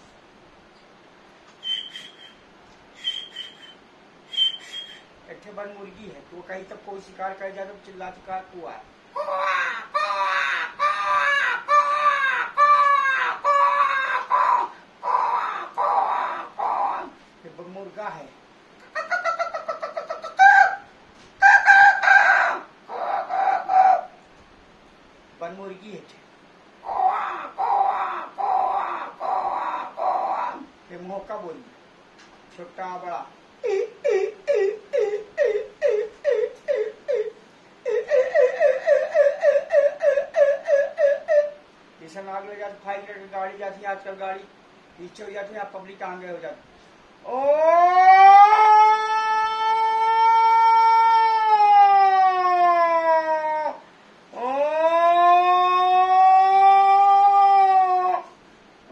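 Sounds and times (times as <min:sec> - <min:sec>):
man imitating hen squawking: 0:03.0 - 0:18.2, 0:18.8 - 0:24.2, 0:26.8 - 0:31.6, 0:32.8 - 0:44.2, 0:47.2 - 0:58.4.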